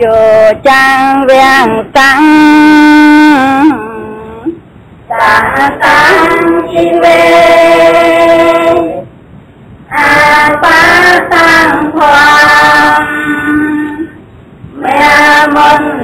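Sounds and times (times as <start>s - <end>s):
person singing long notes: 0.0s - 9.1s, 9.9s - 14.2s.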